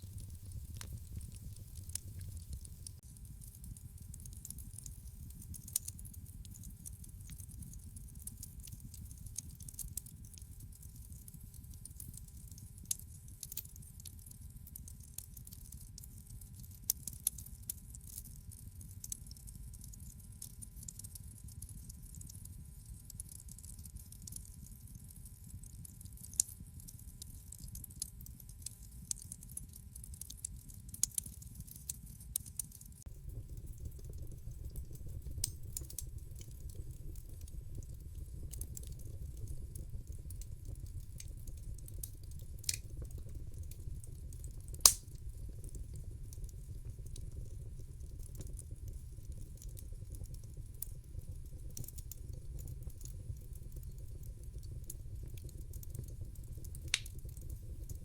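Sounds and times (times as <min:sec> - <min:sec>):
wood fire crackling: 0:00.0 - 0:20.4, 0:27.9 - 0:58.0.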